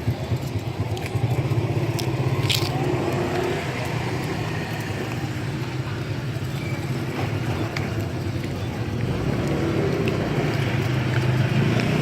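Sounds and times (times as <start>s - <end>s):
street traffic engine hum: 0.0s - 12.0s.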